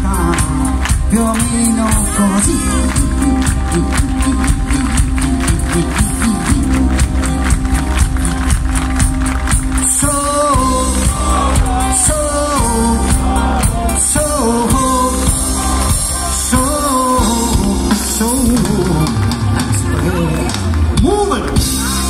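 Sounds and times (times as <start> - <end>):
bass and drums: 0.0 - 22.0
person singing: 0.0 - 22.0.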